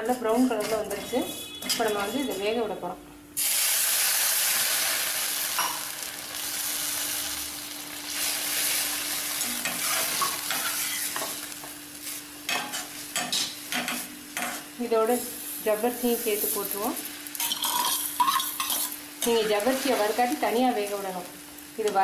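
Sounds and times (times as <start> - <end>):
loud sizzle in a hot pan: 3.4 - 22.0.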